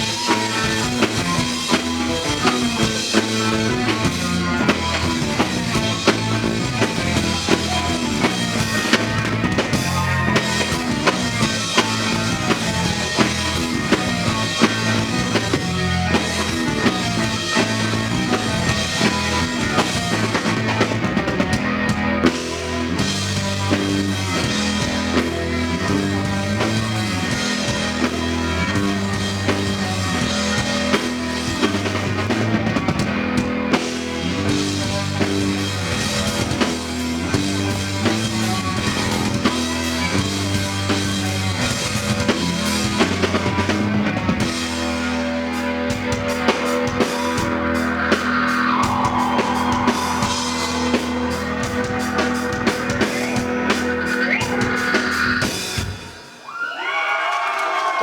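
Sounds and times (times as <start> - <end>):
live rock band playing: 0.0 - 56.5.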